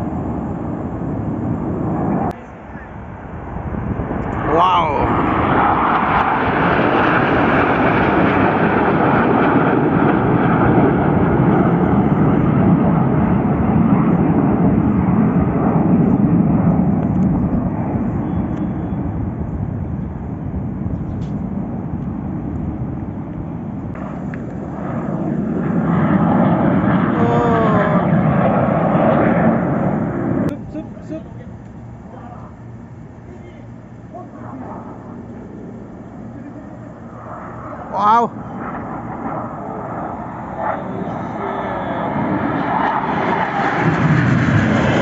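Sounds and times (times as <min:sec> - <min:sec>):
jet engines passing overhead: 0:00.0 - 0:45.0.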